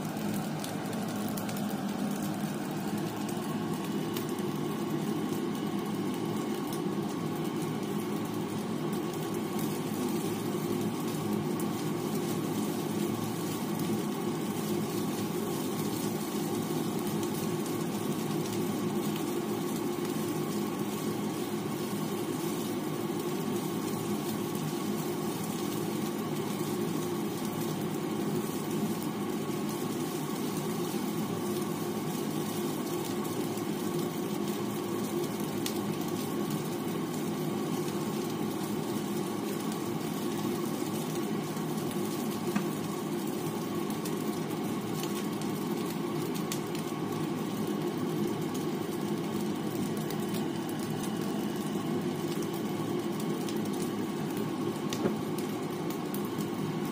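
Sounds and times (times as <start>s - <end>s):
stir-frying in a pan: 0.0s - 56.9s.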